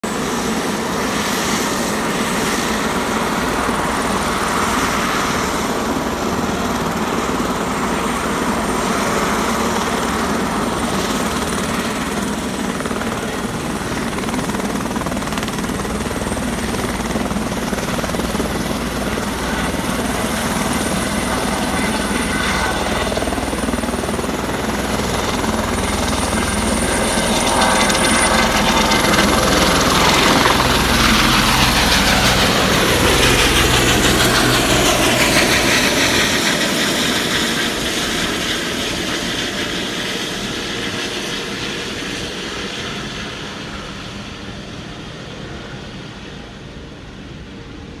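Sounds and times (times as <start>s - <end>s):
helicopter flying past: 0.1s - 48.0s.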